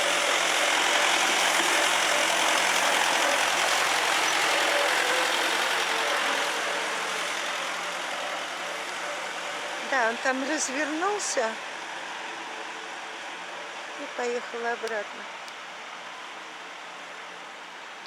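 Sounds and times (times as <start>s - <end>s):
water spraying onto pavement: 0.0s - 17.3s
truck engine running: 0.0s - 18.0s.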